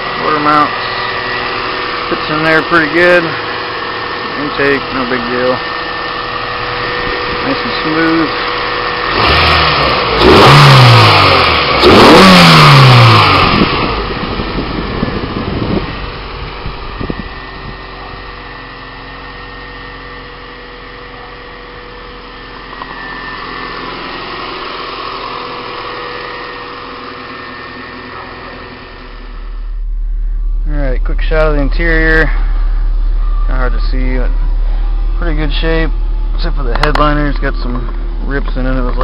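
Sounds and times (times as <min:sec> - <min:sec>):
car engine idling: 0:00.0 - 0:39.0
car engine revving: 0:00.0 - 0:39.0.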